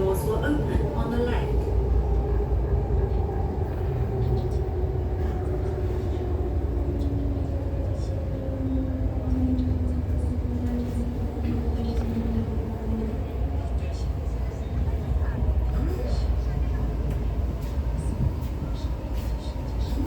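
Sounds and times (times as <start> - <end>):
train rumbling over track: 0.0 - 20.0.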